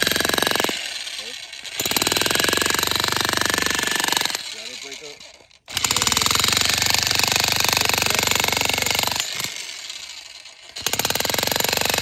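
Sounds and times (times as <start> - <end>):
jackhammer pounding concrete: 0.0 - 12.0
jackhammer winding down: 0.0 - 12.0.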